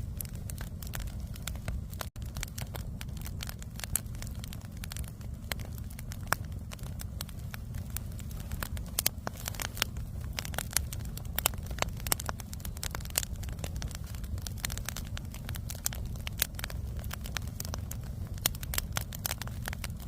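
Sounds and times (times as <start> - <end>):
firewood crackling and popping: 0.0 - 20.0
low rumble: 0.0 - 20.0.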